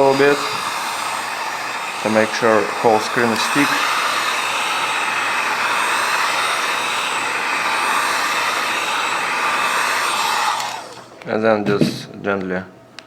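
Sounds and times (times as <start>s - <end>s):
heat gun whooshing: 0.0s - 11.2s.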